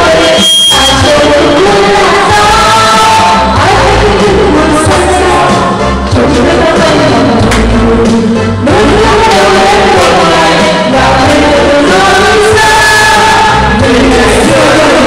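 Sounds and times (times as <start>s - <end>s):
song with sung melody: 0.0s - 15.0s.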